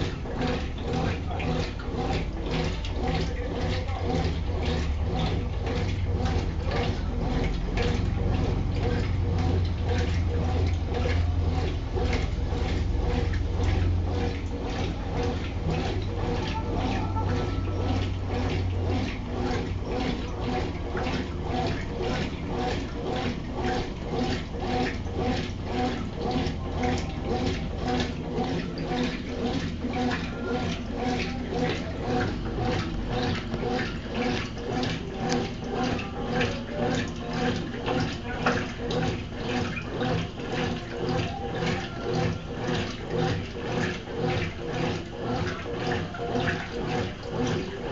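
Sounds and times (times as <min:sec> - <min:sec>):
washing machine motor hum: 0:00.0 - 0:47.9
water swishing in drum: 0:00.0 - 0:47.9.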